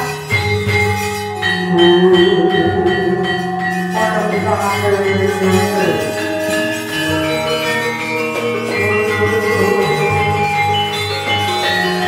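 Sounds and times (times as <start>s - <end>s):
gamelan playing: 0.0s - 12.0s.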